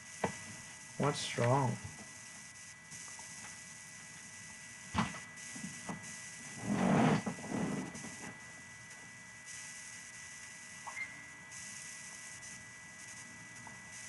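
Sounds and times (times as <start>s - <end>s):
electrical hum with high tone: 0.0s - 14.0s.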